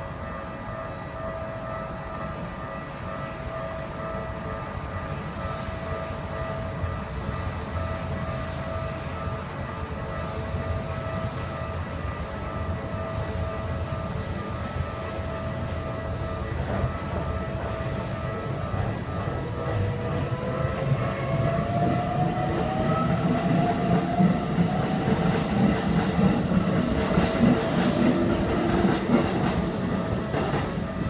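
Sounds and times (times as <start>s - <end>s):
level-crossing alarm ringing: 0.0s - 31.0s
low rumble of a train: 0.0s - 31.0s.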